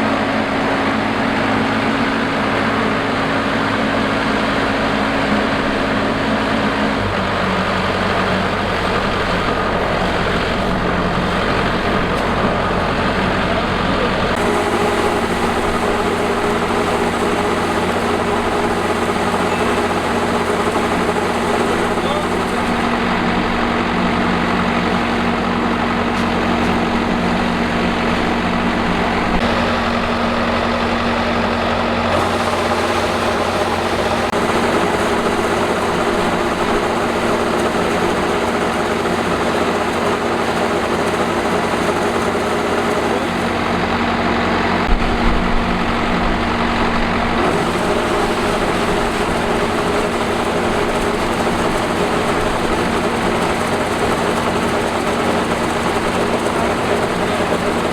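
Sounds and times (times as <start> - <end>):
combine harvester engine running: 0.0 - 57.9.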